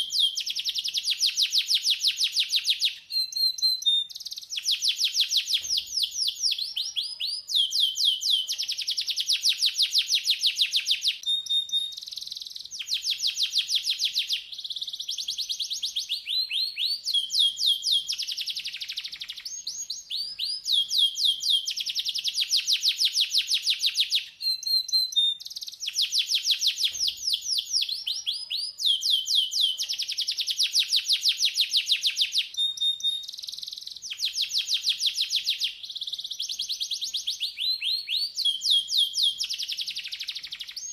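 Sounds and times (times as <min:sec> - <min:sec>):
canary singing: 0:00.0 - 0:40.9
pure bird whistles: 0:00.0 - 0:40.9.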